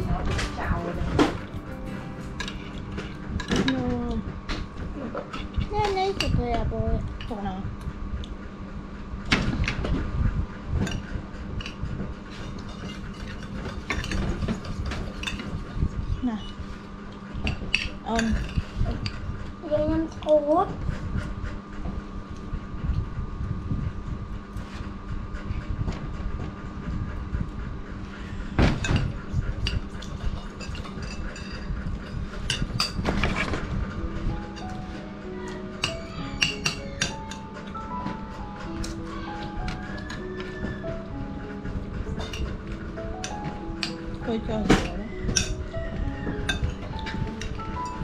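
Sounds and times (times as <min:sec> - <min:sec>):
low hum and rumble: 0:00.0 - 0:48.0.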